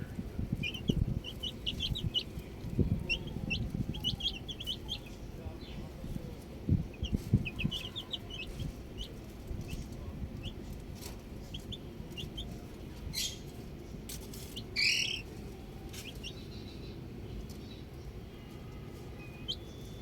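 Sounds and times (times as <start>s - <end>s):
low background rumble: 0.0s - 19.8s
baby chicks peeping: 0.0s - 20.0s.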